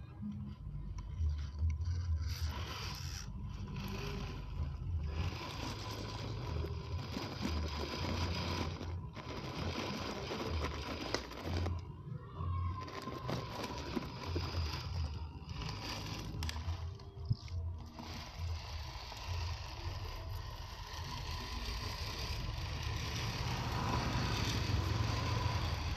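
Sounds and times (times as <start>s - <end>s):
small electric motor whining: 0.0s - 25.9s.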